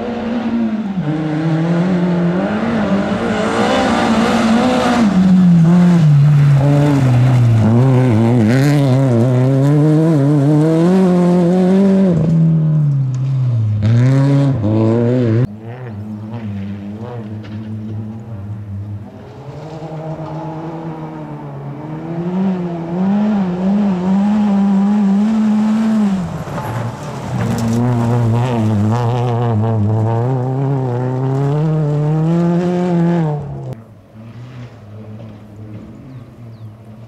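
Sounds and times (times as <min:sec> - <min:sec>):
distant rally car engine: 0:00.0 - 0:37.0
rally car engine revving: 0:00.0 - 0:37.0.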